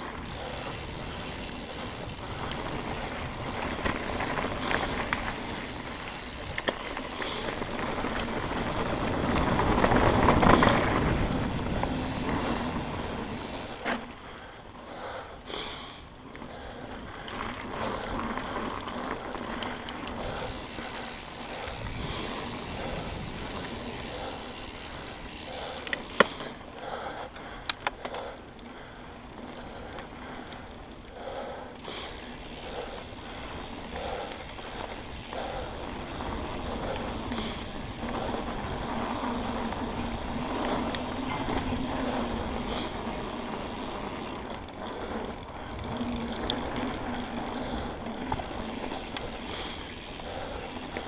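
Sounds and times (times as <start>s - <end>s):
tyres rushing on dirt: 0.0s - 14.2s, 16.9s - 26.7s, 31.8s - 51.0s.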